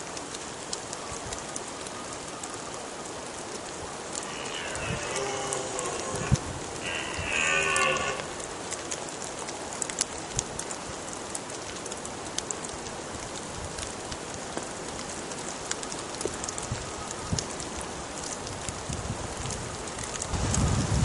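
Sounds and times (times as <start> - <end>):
rain falling on woodland: 0.0 - 21.0.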